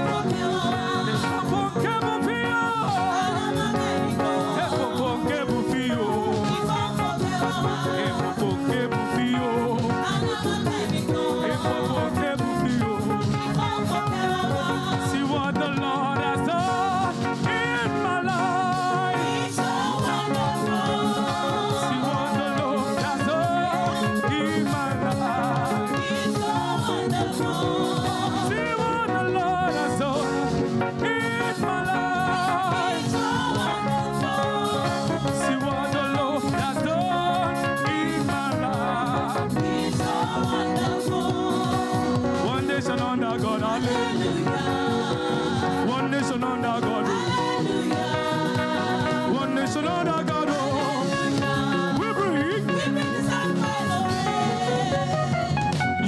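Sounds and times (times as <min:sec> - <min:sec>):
gospel voices singing with band: 0:00.0 - 0:56.0.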